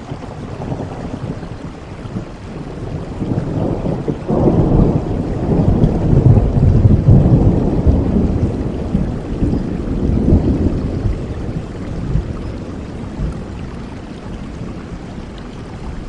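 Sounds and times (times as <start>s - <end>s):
thunder rolling: 0.0s - 13.8s
rain falling: 0.0s - 16.0s.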